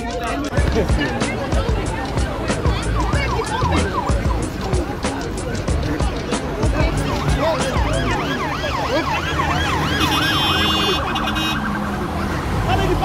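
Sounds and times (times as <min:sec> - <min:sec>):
sirens yelping: 0:00.3 - 0:13.0.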